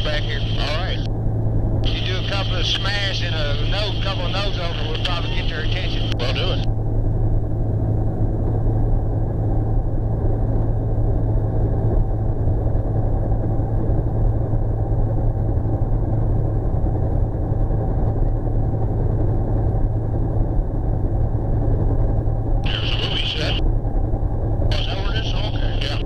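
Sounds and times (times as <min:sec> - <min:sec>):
helicopter cabin drone: 0:00.0 - 0:26.0.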